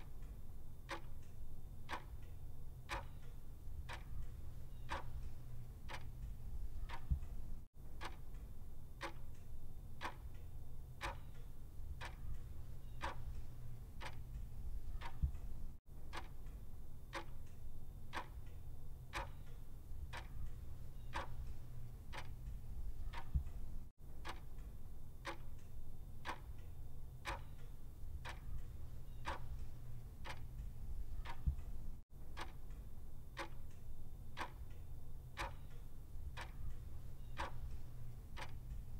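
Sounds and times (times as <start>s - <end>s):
clock ticking: 0.0s - 10.4s, 11.0s - 38.9s
steady low hum: 0.0s - 38.9s.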